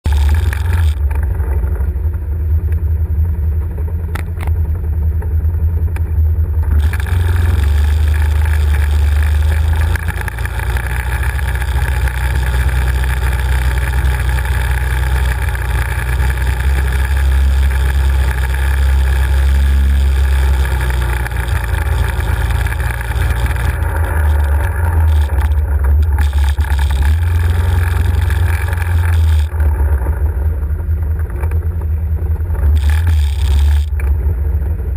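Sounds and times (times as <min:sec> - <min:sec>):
quad engine rumbling: 0:00.0 - 0:34.9
rattle: 0:00.0 - 0:34.9.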